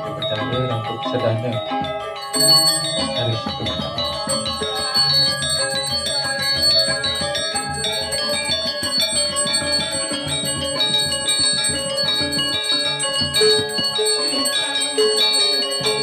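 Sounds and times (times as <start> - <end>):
bell ringing steadily: 0.0 - 16.0
metal mallet instruments striking: 0.0 - 16.0.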